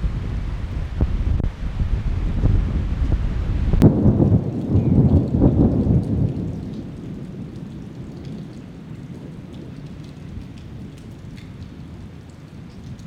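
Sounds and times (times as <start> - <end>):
thunder rolling: 0.0 - 12.1
steady rain: 0.0 - 13.0.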